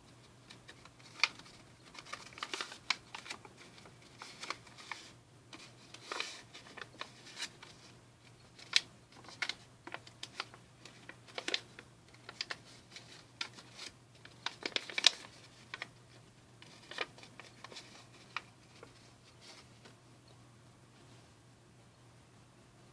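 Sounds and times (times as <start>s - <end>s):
paper rustling and crackling: 0.4s - 20.0s.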